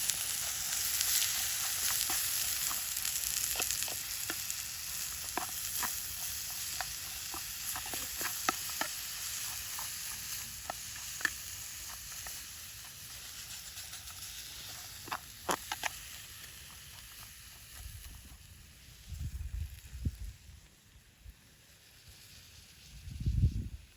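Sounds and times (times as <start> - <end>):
food sizzling in a pan: 0.0 - 20.6, 21.6 - 23.9.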